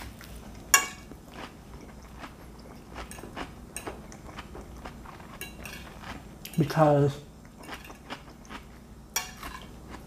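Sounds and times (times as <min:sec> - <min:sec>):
chewing with small crunches: 0:00.0 - 0:06.8, 0:07.4 - 0:10.0.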